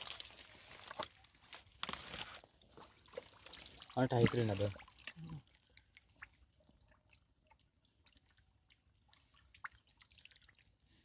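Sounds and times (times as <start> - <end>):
water dripping and splashing: 0.0 - 10.9.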